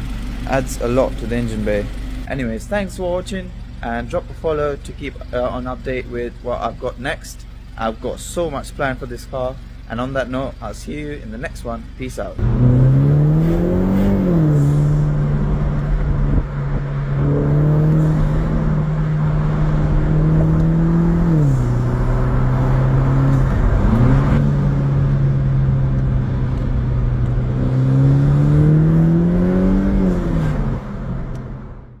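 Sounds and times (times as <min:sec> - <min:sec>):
car engine running under load: 0:00.0 - 0:32.0.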